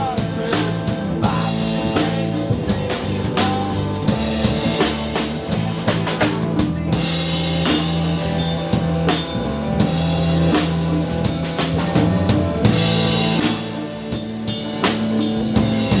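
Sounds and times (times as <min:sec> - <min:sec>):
blues band playing: 0:00.0 - 0:16.0.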